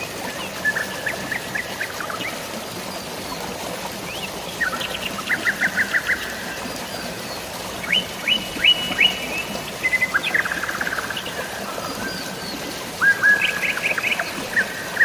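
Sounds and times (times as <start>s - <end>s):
birds chirping: 0.0s - 15.0s
drizzling rain: 0.0s - 15.0s
flowing water: 0.0s - 15.0s.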